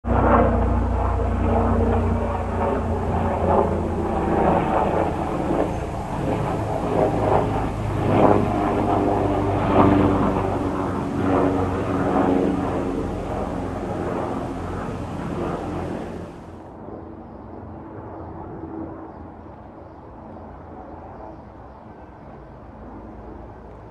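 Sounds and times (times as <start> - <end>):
helicopter flying overhead: 0.0 - 23.9.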